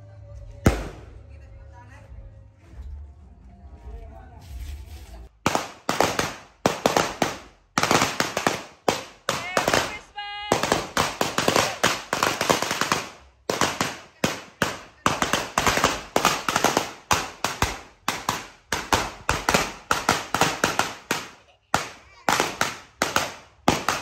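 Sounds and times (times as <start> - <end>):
firecrackers banging: 0.6 - 1.4, 5.3 - 24.0.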